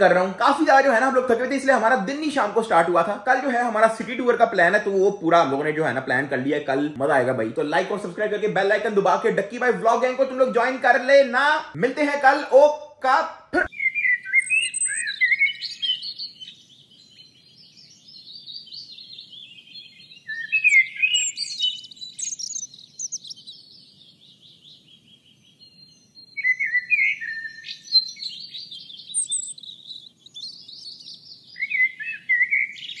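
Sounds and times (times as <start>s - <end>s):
songbirds chirping and trilling: 0.0s - 12.7s, 13.6s - 33.0s.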